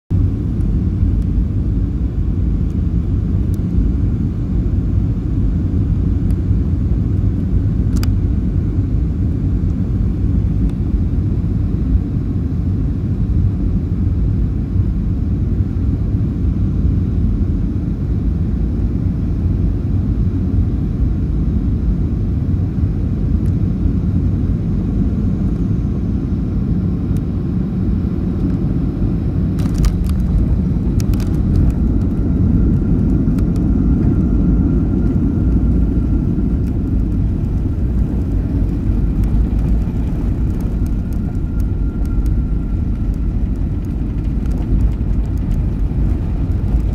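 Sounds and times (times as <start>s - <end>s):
jet engine rumble: 0.1s - 46.9s.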